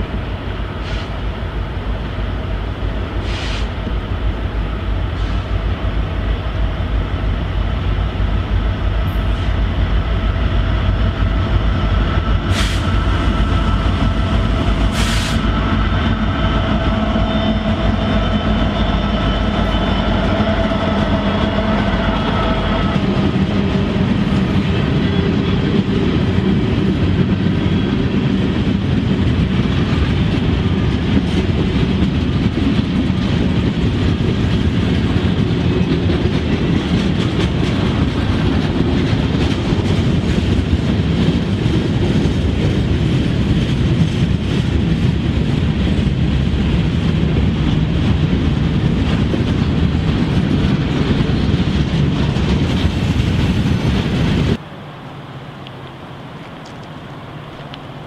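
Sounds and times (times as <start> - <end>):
diesel locomotive hum: 0.0 - 58.0
steel train wheels on rail: 0.0 - 58.0.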